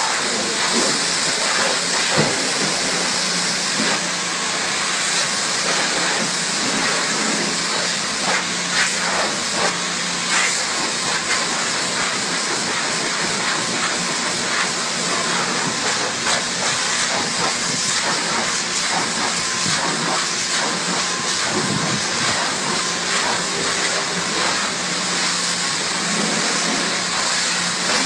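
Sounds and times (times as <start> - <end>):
water spray hissing on car: 0.0 - 28.0.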